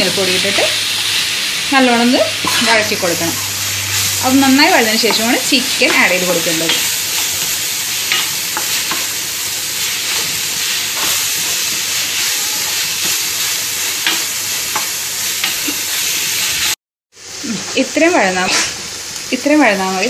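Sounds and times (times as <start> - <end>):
food sizzling in hot oil: 0.0 - 20.0
spatula scraping pan: 0.5 - 16.7.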